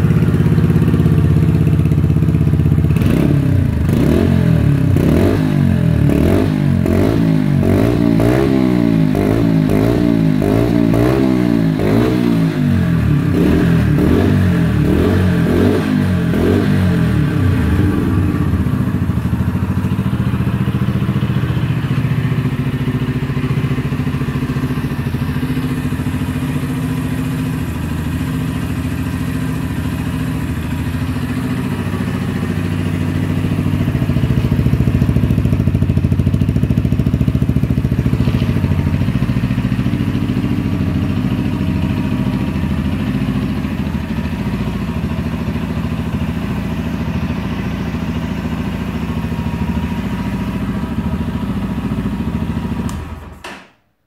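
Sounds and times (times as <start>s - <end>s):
motorcycle engine idling: 0.0s - 53.6s.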